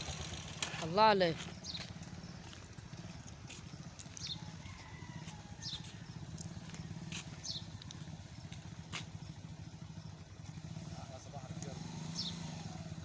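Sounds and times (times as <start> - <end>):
engine running steadily: 0.0 - 13.0
small birds chirping: 0.0 - 13.0.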